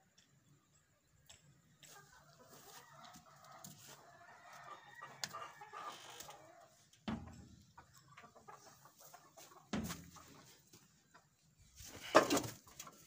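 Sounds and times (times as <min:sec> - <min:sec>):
chickens clucking faintly: 0:00.0 - 0:13.0.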